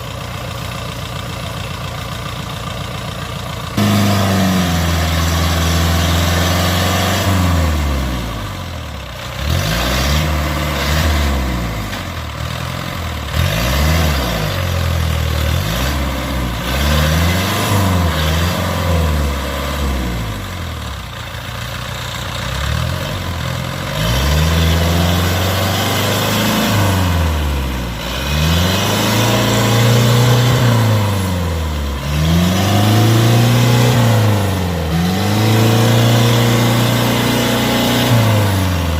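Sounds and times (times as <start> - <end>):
tracked machine engine revving: 3.7 - 38.9.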